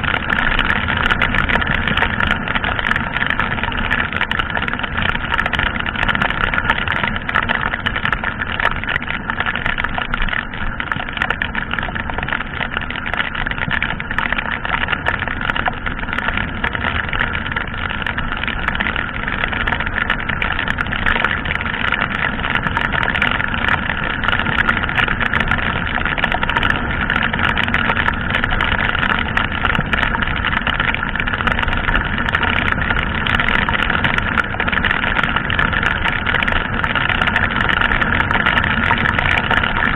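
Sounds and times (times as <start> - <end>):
rush of wind and rain: 0.0 - 39.9.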